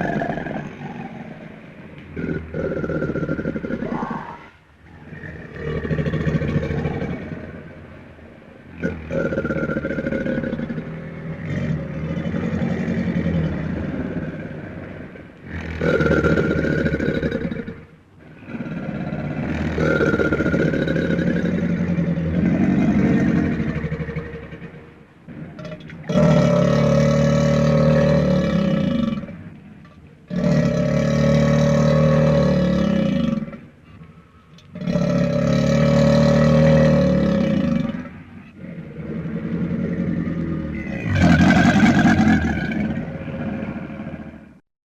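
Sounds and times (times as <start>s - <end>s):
animal growling: 0.0s - 7.8s, 8.7s - 29.6s, 30.3s - 44.5s.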